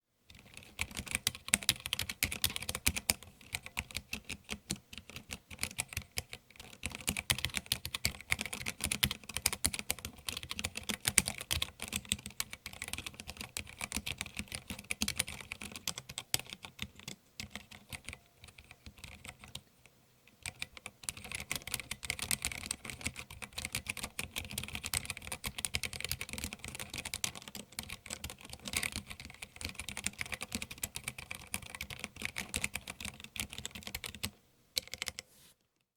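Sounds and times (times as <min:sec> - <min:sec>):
typing on a mechanical keyboard: 0:00.3 - 0:19.6, 0:20.4 - 0:35.2.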